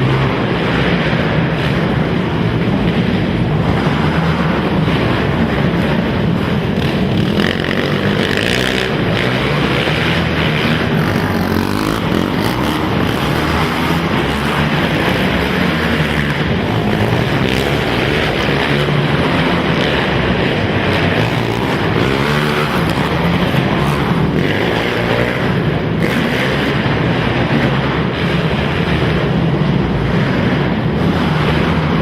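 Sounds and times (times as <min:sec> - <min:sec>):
quad engines revving: 0:00.0 - 0:32.0.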